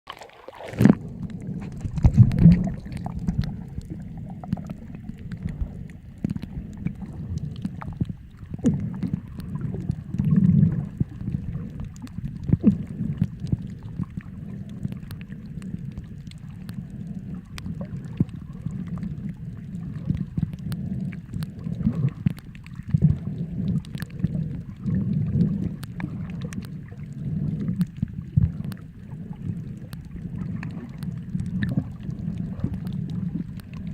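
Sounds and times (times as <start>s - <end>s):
underwater rumble of moving water: 0.1s - 33.9s
faint clicks: 0.8s - 33.9s.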